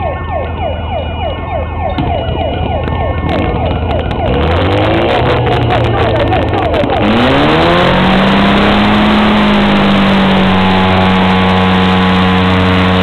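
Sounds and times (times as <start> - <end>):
pump engine droning: 0.0 - 13.0
siren-like wail: 0.0 - 13.0.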